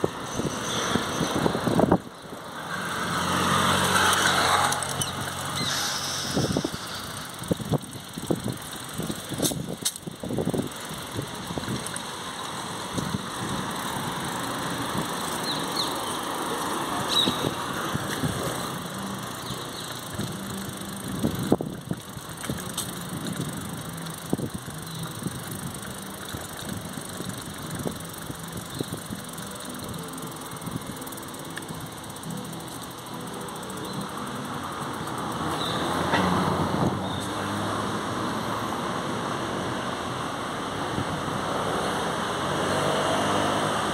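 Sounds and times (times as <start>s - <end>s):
bicycle rolling over cobblestones: 0.0s - 38.4s.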